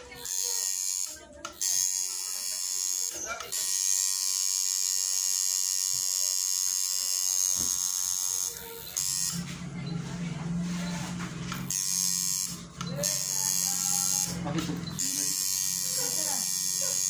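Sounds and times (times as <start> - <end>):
tattoo machine whining: 0.0 - 9.6, 10.6 - 17.0.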